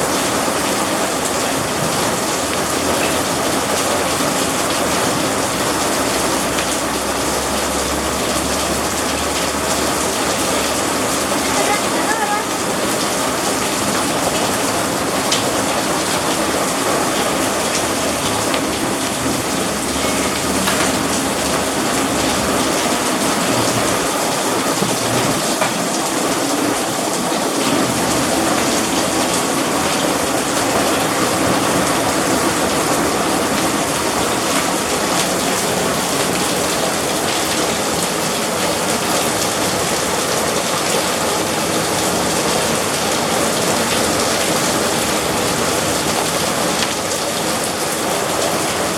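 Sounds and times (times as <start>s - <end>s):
hail pouring down: 0.0s - 48.9s
heavy rain: 0.0s - 48.9s.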